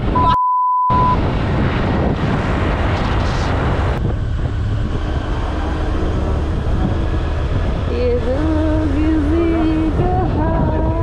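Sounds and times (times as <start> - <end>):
wind rushing over microphone: 0.0 - 11.0
vehicle engine low rumble: 0.9 - 11.0.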